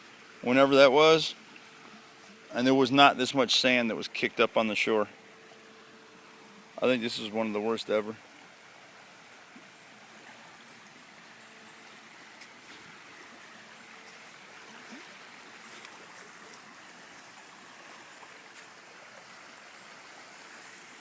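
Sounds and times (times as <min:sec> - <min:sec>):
floodwater rushing in a creek: 0:00.0 - 0:21.0.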